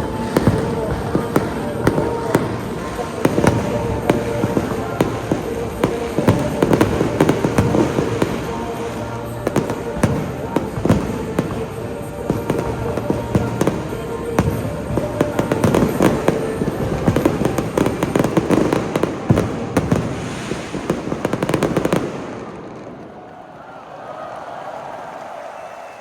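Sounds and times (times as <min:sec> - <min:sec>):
background music: 0:00.0 - 0:22.9
fireworks bangs and crackling: 0:00.0 - 0:23.5.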